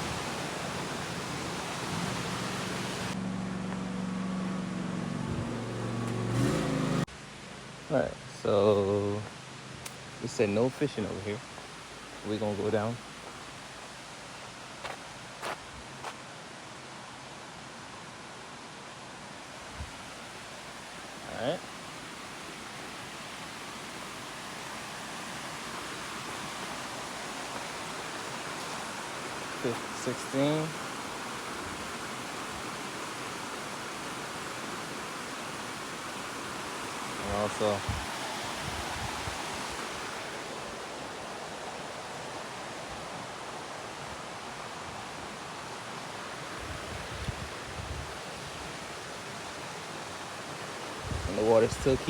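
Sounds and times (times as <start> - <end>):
mountain creek rushing: 0.0 - 52.0.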